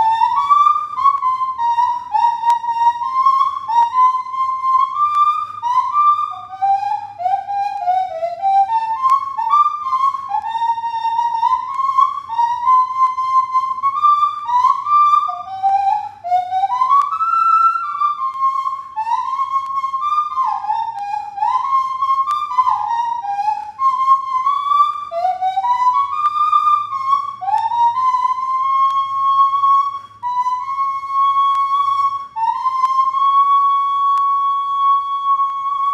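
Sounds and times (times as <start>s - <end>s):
nose flute melody: 0.0s - 35.9s.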